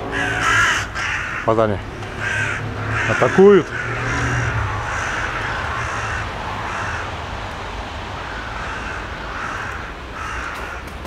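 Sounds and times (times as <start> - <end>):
crows cawing: 0.0 - 11.0.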